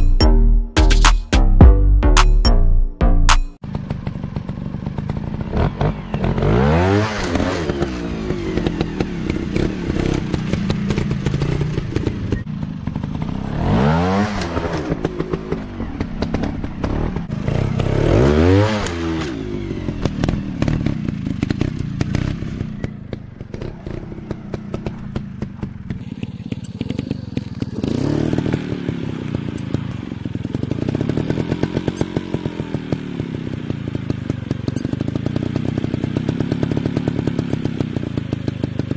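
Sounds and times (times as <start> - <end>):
dirt bike engines revving: 4.8 - 38.7.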